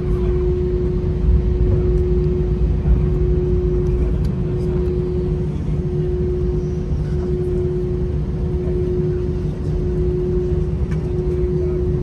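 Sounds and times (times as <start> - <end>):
constant cabin hum: 0.0 - 12.0
low jet engine rumble: 0.0 - 12.0.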